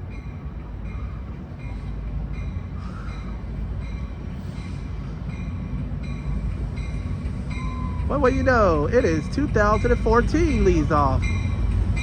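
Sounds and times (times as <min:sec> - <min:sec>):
train engine and wheel rumble: 0:00.0 - 0:12.0.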